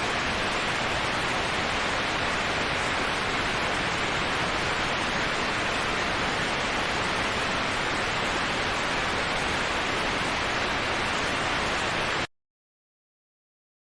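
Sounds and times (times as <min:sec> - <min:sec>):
waterfall rushing: 0:00.0 - 0:12.3.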